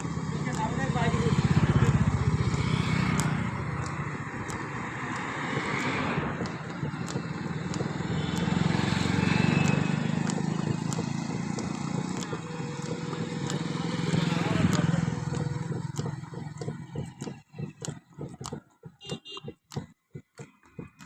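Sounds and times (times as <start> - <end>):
vehicle engine rumble: 0.0 - 19.8
road or wind noise: 0.0 - 21.0.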